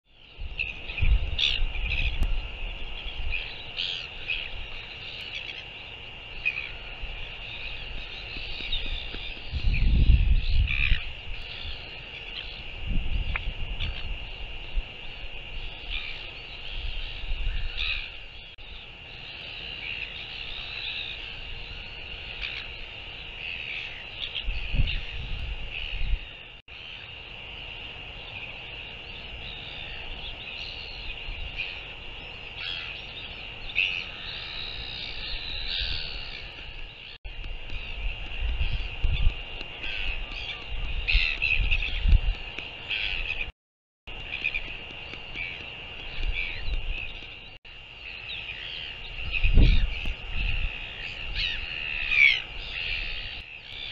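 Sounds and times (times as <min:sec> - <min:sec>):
birds calling: 0:00.1 - 0:43.5, 0:44.1 - 0:53.9
wind gusting on microphone: 0:00.3 - 0:05.0, 0:06.0 - 0:18.9, 0:23.9 - 0:26.6, 0:29.3 - 0:43.5, 0:44.1 - 0:47.6, 0:48.5 - 0:53.9.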